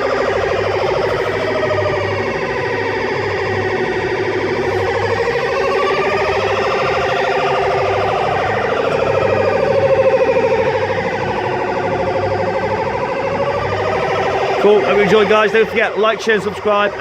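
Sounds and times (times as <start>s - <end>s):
warbling siren-like electronic tone: 0.0s - 17.0s.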